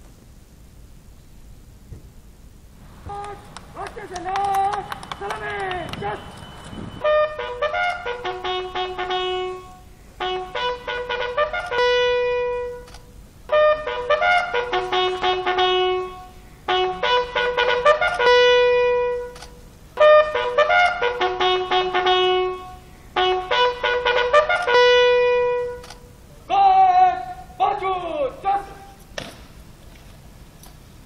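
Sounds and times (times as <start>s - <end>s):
bugle call: 2.9s - 29.1s.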